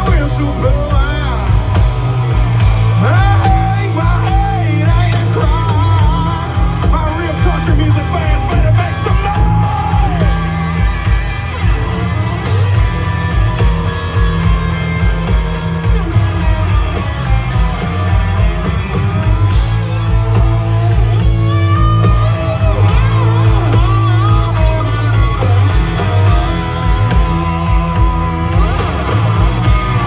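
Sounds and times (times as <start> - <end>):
country-rock band playing: 0.0 - 30.0
electric guitar lead bending notes: 0.0 - 30.0.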